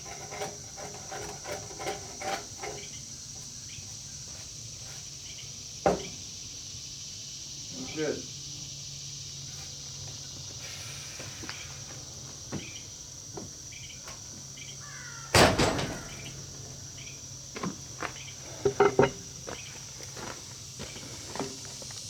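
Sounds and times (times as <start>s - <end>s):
high insect buzz: 0.0s - 22.0s.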